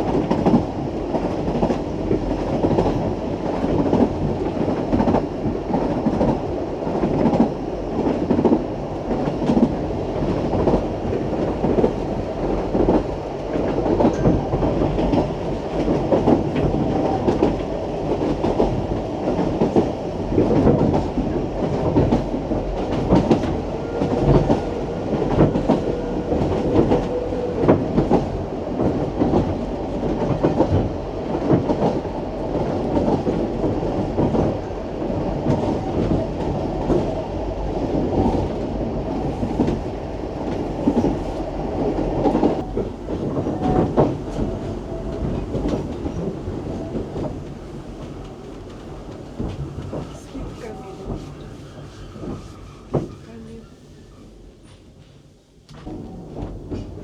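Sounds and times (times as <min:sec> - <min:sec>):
train coaches rumbling: 0:00.0 - 0:57.0.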